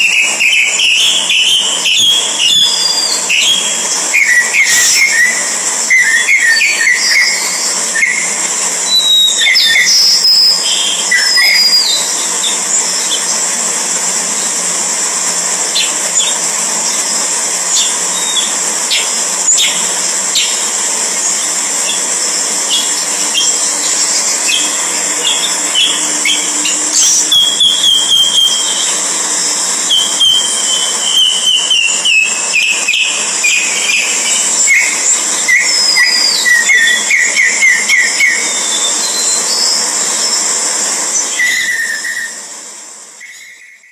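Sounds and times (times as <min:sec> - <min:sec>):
birds whistling and chirping: 0:00.0 - 0:13.5, 0:15.7 - 0:42.5, 0:43.2 - 0:43.9
high-pitched background drone: 0:00.0 - 0:43.9.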